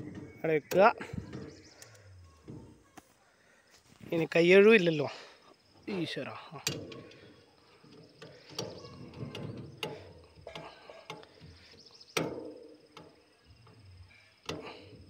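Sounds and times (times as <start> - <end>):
faint insect trill: 0.0 - 15.0.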